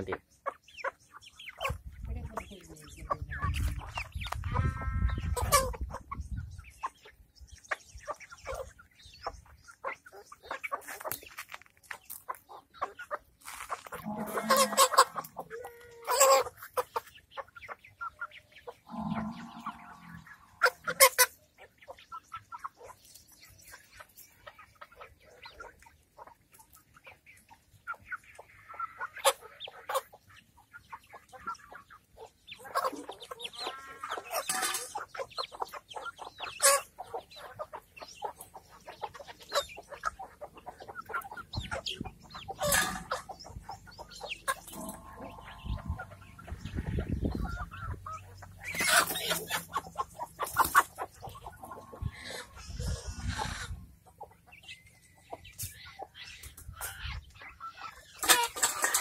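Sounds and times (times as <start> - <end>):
chickens clucking: 0.0 - 59.0
beaks pecking grain: 7.7 - 59.0.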